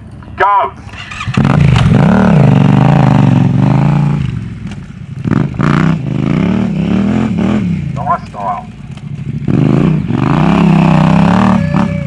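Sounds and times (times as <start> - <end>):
motorcycle engine revving: 0.8 - 12.0.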